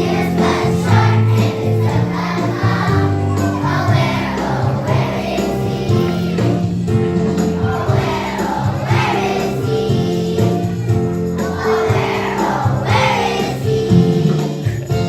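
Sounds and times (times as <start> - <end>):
group of voices singing: 0.0 - 6.7, 7.3 - 14.6
instrumental accompaniment: 0.0 - 15.0.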